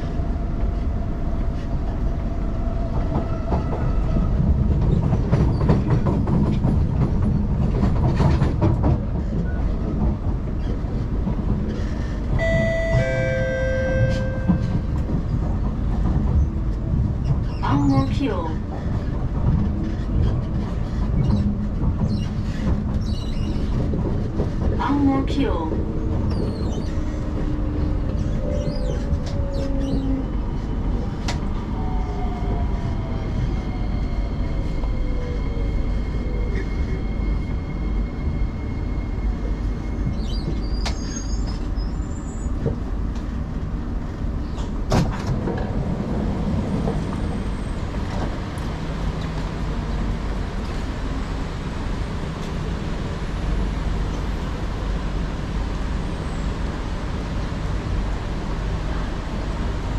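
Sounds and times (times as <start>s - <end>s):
train rumble: 0.0s - 59.9s.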